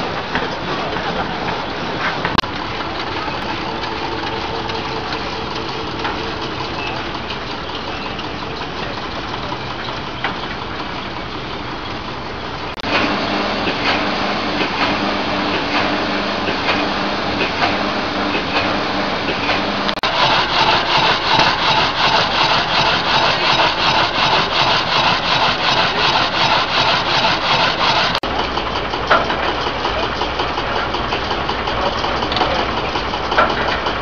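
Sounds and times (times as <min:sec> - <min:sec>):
engine running with rapid knocking: 0:00.0 - 0:34.0
steady machinery noise: 0:00.0 - 0:34.0.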